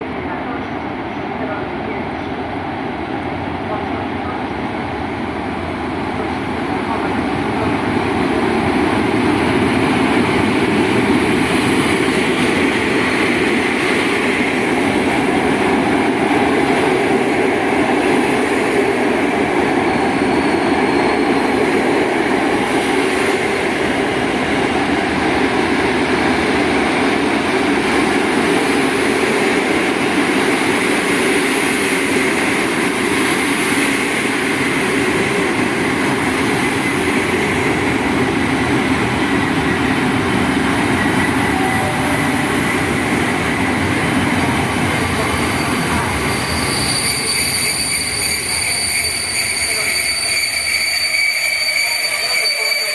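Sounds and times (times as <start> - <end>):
train wheels on track: 0.0 - 52.9.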